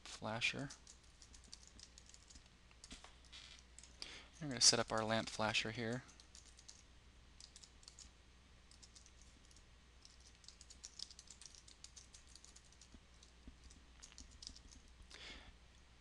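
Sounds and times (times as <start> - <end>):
faint keyboard typing: 0.5 - 15.8.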